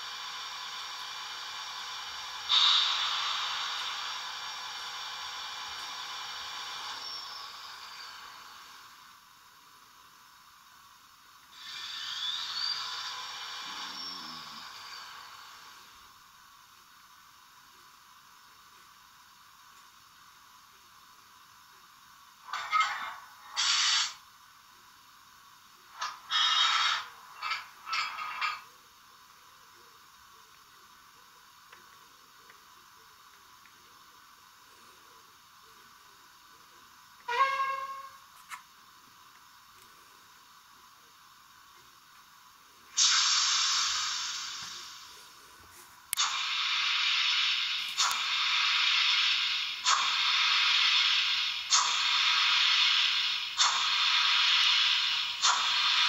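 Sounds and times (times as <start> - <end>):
thin steam hiss from small speaker: 0.0 - 56.0.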